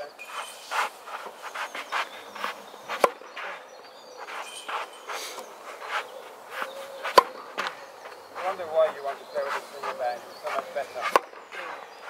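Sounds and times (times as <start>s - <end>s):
shoes scuffing on clay court: 0.0s - 12.0s
tennis racket striking ball: 0.3s - 3.6s, 4.2s - 7.8s, 8.4s - 11.8s.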